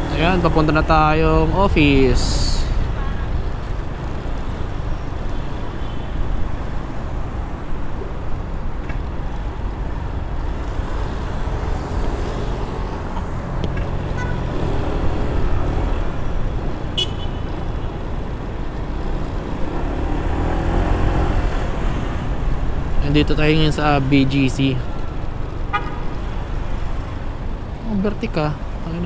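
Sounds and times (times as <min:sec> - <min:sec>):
city traffic: 0:00.0 - 0:29.0
wind engine and road rumble: 0:00.0 - 0:29.0.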